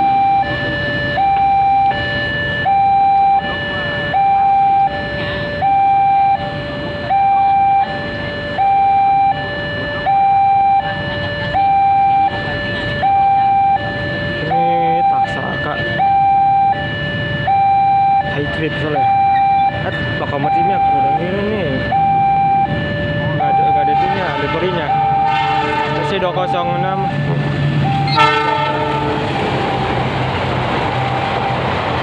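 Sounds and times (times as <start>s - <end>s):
two-tone crossing alarm: 0.0s - 32.0s.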